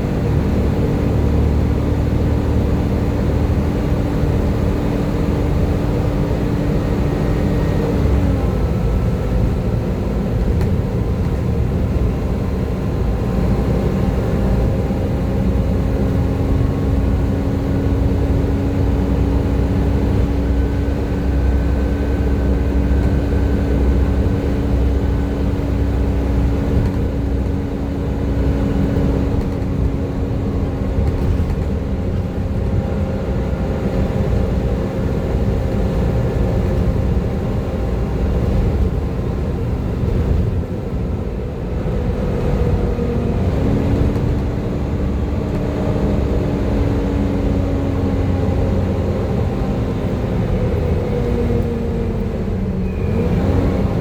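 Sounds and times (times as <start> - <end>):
bus engine rumbling with whine: 0.0 - 54.0.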